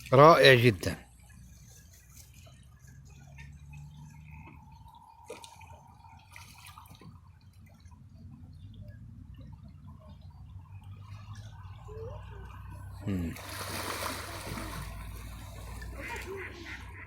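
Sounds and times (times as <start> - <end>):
water lapping at shoreline: 0.0 - 17.0.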